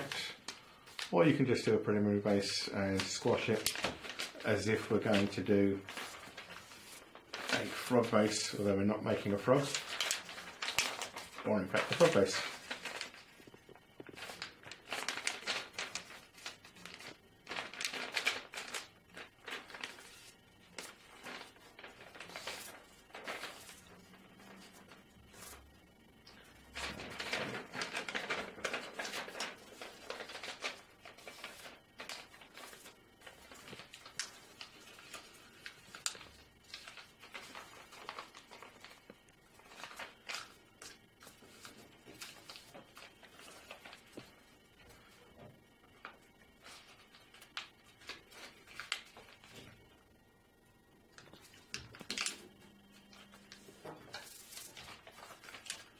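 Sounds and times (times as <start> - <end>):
paper rustling and crackling: 0.0 - 50.0, 51.1 - 55.9.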